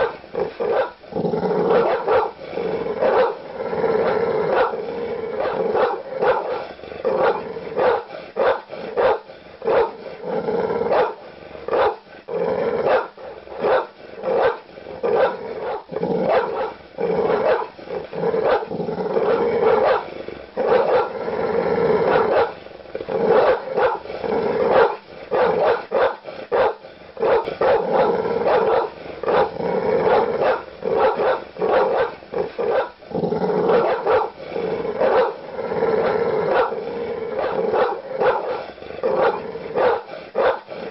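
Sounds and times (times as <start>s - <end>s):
large dog barking: 0.0s - 12.1s, 12.7s - 21.2s, 22.0s - 40.9s.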